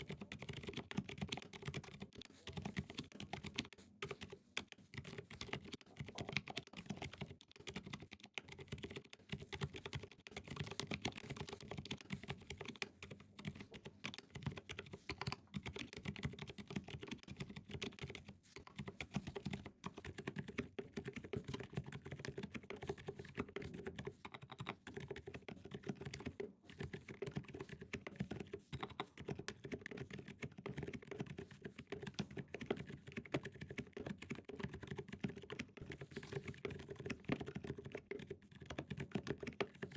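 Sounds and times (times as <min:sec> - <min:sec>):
muted mechanical keyboard typing: 0:00.0 - 0:39.9.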